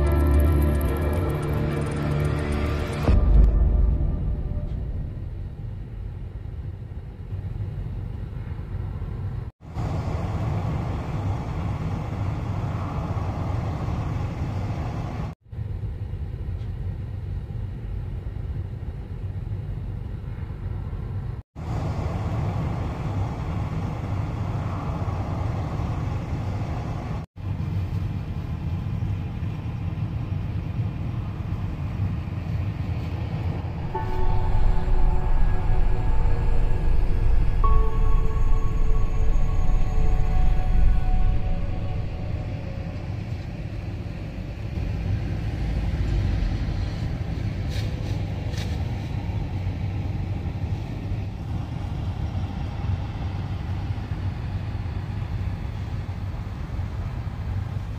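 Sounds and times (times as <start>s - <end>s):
low vehicle rumble: 0.0s - 57.8s.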